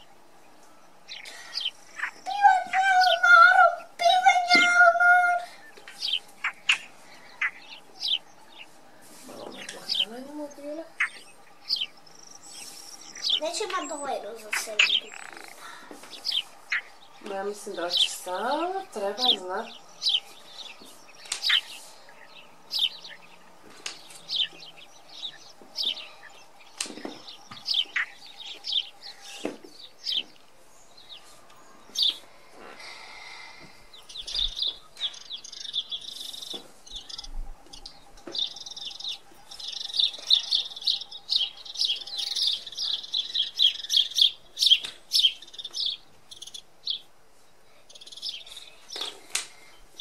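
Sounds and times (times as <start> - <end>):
small birds chirping and twittering: 0.0 - 50.0.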